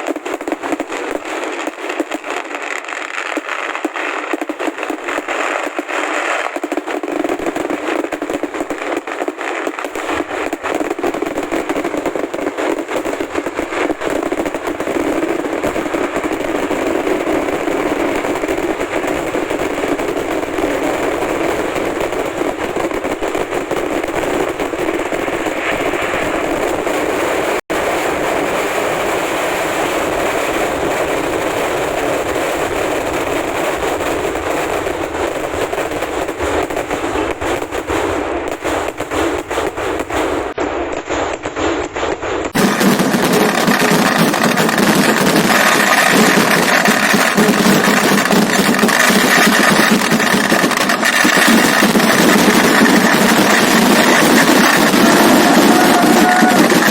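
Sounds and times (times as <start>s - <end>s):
firecracker barrage crackling: 0.0s - 56.9s.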